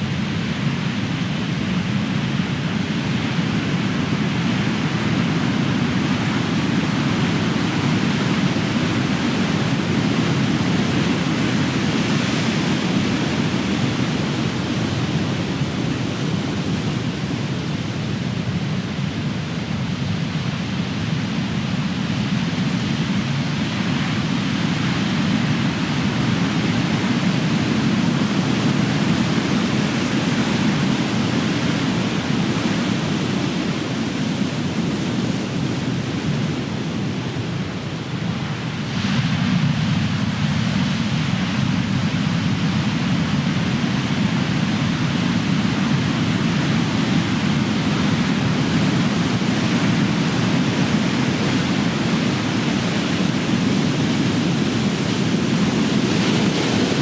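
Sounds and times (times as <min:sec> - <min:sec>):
ocean waves breaking on shore: 0:02.2 - 0:57.0.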